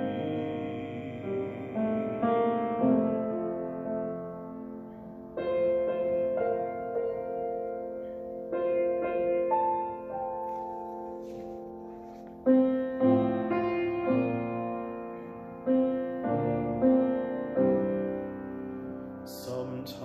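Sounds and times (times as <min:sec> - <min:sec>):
grand piano chords: 0:00.0 - 0:20.0.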